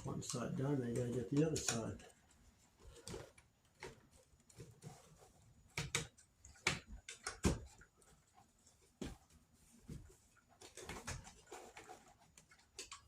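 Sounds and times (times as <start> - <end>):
plastic parts clicking and knocking: 0.0 - 13.0.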